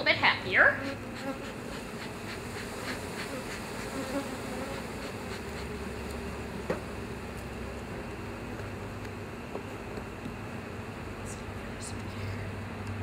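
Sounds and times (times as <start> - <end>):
honeybees buzzing: 0.0 - 12.8.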